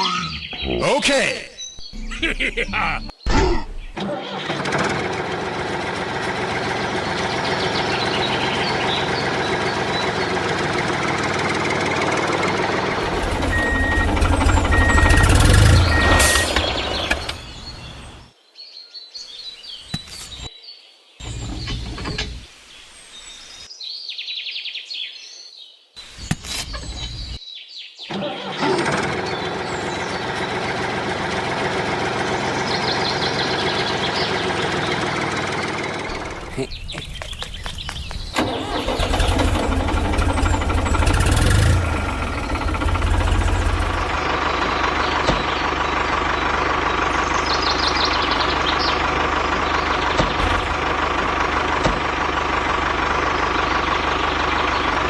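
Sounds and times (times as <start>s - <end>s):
tractor engine running: 1.8s - 18.3s, 21.2s - 22.5s, 28.1s - 55.0s.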